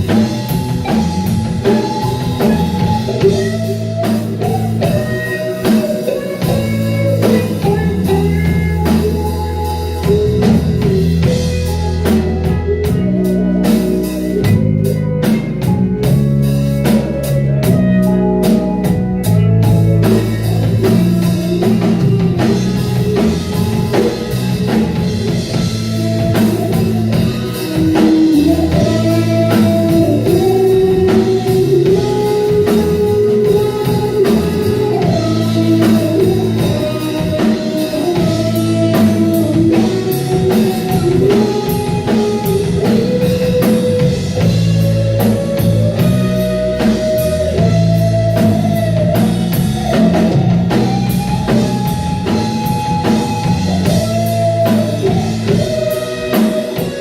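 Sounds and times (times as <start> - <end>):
bass guitar: 0.0 - 57.0
drum kit: 0.0 - 57.0
guitar melody: 0.0 - 57.0.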